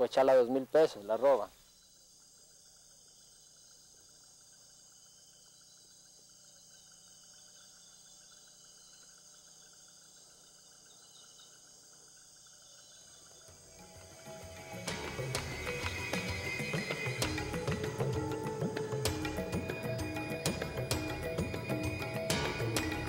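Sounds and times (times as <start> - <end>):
faint insect chorus trilling: 0.0 - 23.0.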